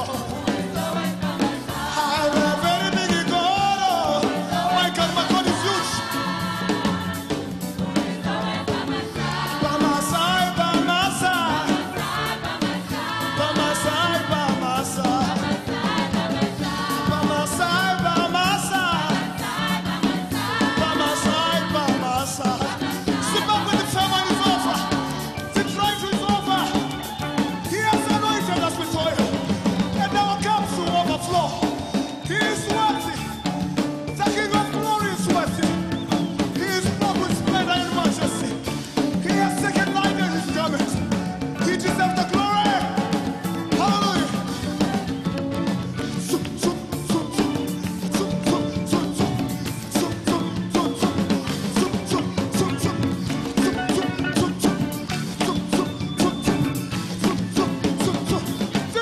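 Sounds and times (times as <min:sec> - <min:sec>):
bass: 0:00.0 - 0:59.0
drum kit beat: 0:00.0 - 0:59.0
gospel choir singing: 0:00.0 - 0:59.0
keyboards: 0:00.0 - 0:59.0.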